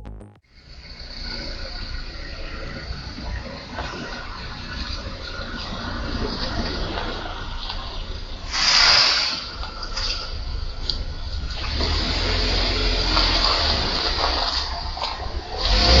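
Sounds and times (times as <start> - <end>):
road noise rushing hiss: 0.6 - 16.0.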